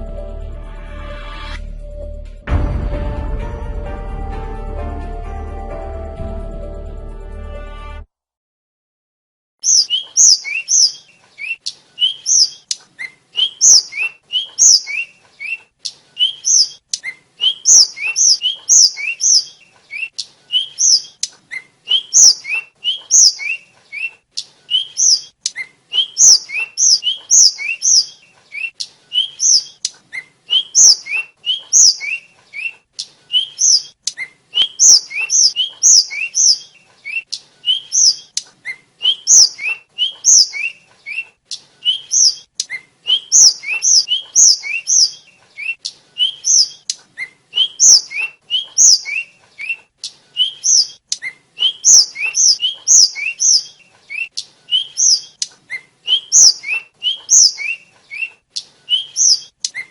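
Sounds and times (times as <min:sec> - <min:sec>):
bird chirping song: 0:09.6 - 0:59.9.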